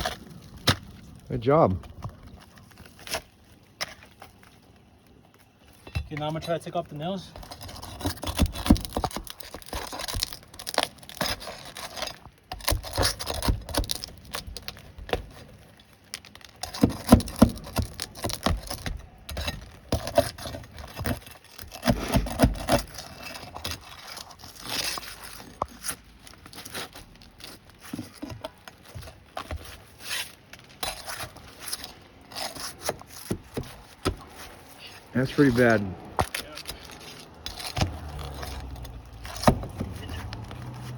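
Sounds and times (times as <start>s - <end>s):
metal scraping and knocking on shingles: 0.0s - 40.9s
shingle tearing crackle: 0.0s - 40.9s.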